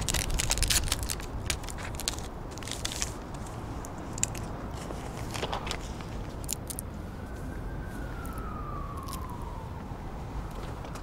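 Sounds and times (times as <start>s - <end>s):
paper and tape crackling: 0.0s - 9.3s
low street rumble: 0.0s - 11.0s.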